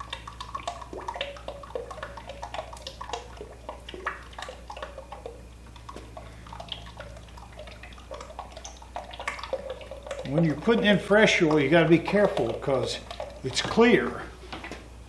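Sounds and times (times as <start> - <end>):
oil pouring and splashing: 0.0 - 14.2.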